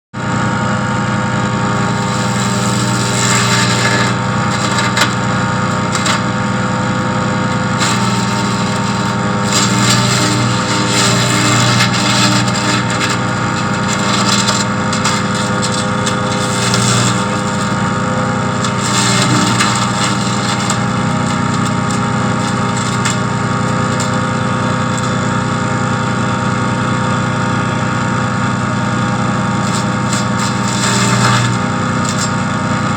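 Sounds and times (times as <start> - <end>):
wood chipper engine running: 0.2 - 32.9.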